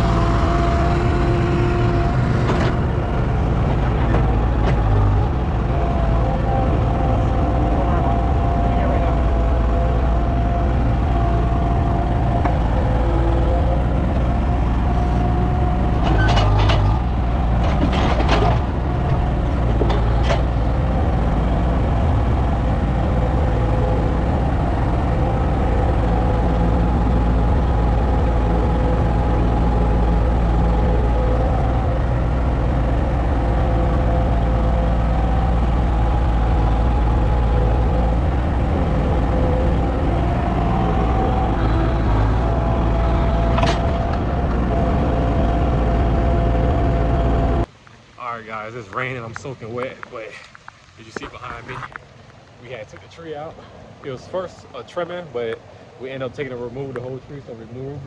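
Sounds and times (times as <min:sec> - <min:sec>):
vehicle engine running: 0:00.0 - 0:47.8.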